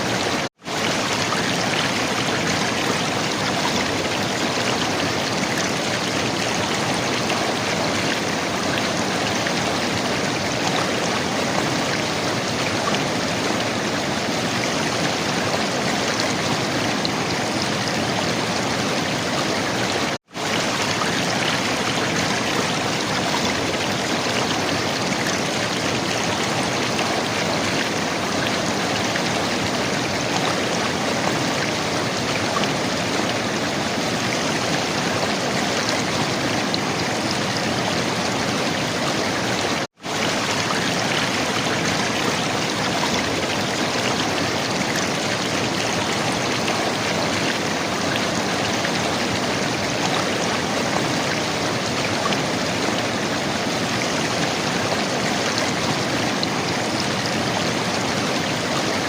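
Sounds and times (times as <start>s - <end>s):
river water gurgling and rushing: 0.0s - 59.0s.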